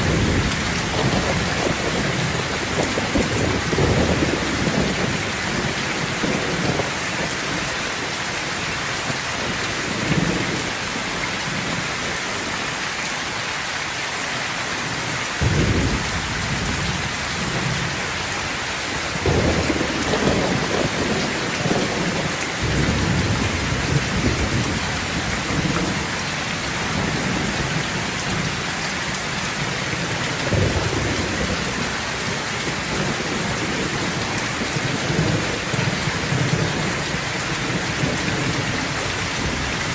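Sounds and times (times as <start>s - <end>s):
thunder rumbling: 0.0s - 7.8s, 15.4s - 39.9s
heavy rain falling: 0.0s - 39.9s.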